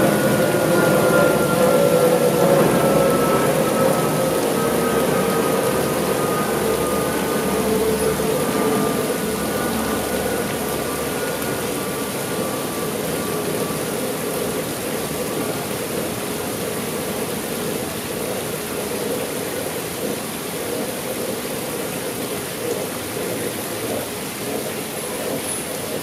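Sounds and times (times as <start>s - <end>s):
water splashing down rock wall: 0.2s - 26.0s.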